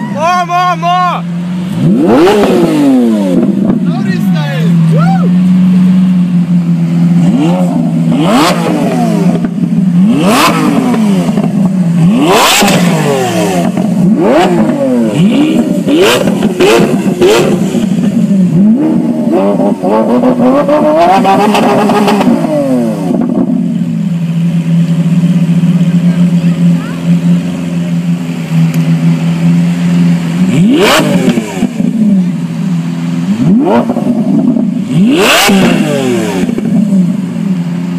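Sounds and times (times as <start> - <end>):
sports car engine revving: 0.0 - 37.9
exhaust cracks: 6.4 - 37.4.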